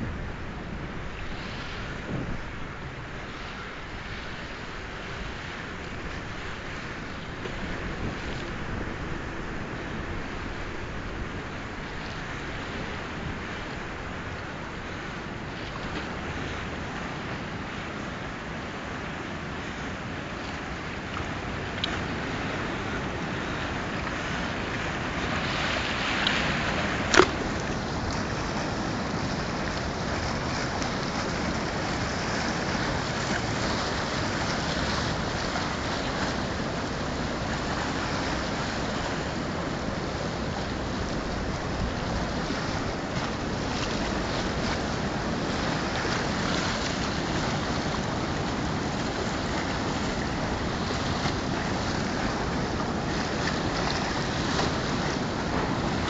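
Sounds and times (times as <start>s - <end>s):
river rushing: 0.0s - 56.0s
wind noise on microphone: 0.0s - 56.0s.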